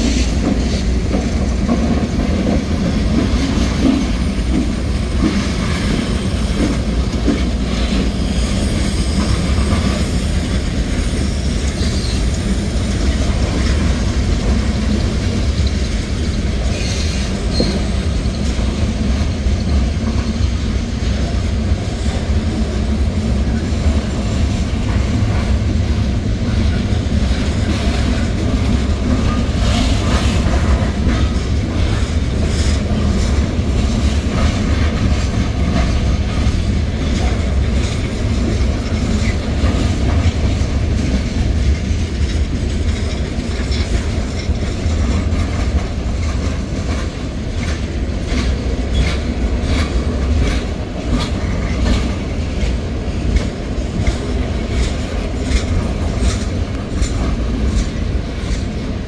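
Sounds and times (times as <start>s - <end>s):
freight train rumbling past: 0.0s - 59.0s
wheels clacking over rail joints: 0.0s - 59.0s.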